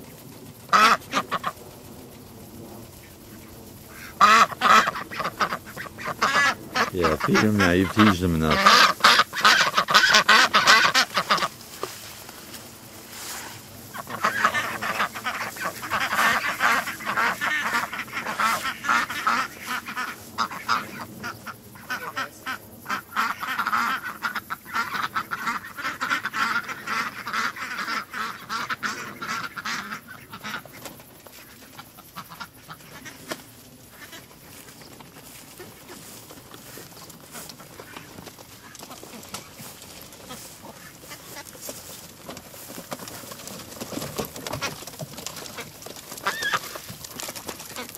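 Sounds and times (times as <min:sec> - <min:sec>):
ducks quacking: 0:00.0 - 0:01.7, 0:02.9 - 0:47.9.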